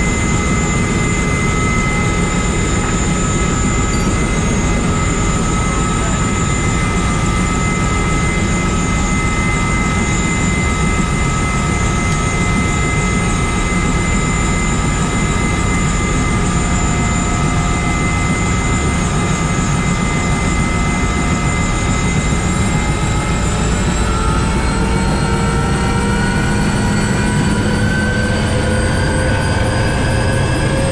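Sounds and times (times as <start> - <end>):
helicopter rotor roar: 0.0 - 30.9
high turbine whine: 0.0 - 30.9.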